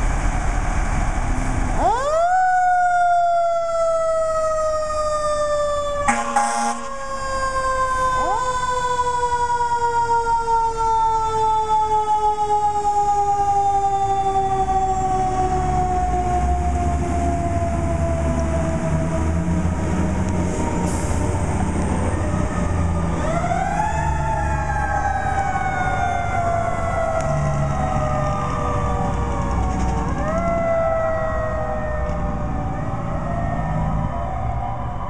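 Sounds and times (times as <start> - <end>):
vehicle engine rumble: 0.0 - 6.2, 12.2 - 35.0
mechanical siren wailing: 1.8 - 19.8, 22.0 - 35.0.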